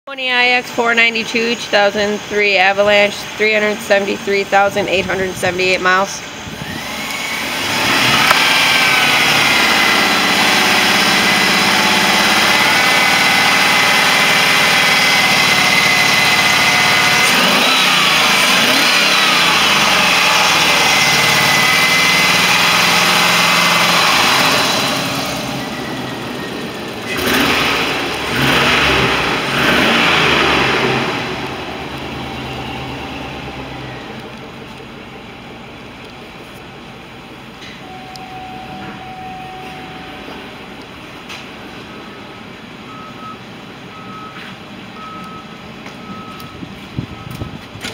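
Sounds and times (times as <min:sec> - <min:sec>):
truck engine idling and revving: 0:00.1 - 0:47.9
steady high whine: 0:00.4 - 0:44.1.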